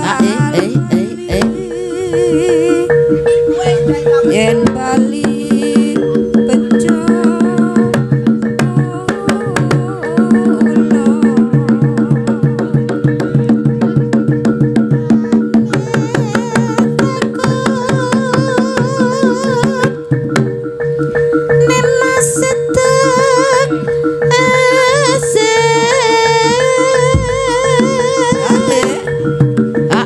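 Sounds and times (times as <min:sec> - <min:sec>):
hand drums beating: 0:00.0 - 0:30.0
held low tones: 0:00.0 - 0:30.0
wavering melody with vibrato: 0:00.0 - 0:30.0.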